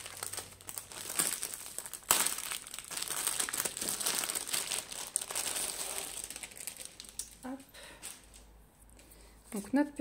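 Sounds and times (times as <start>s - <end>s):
packaging crinkling: 0.0s - 8.5s.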